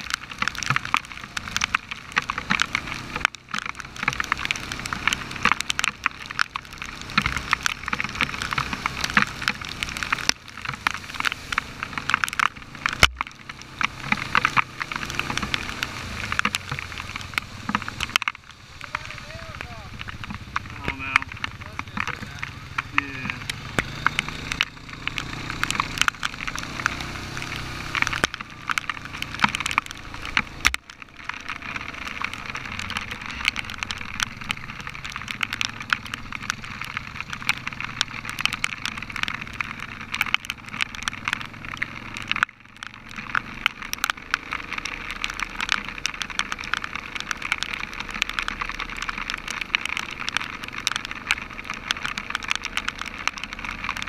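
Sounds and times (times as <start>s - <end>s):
atv engine running: 0.0s - 54.0s
heavy rain on helmet: 0.0s - 54.0s.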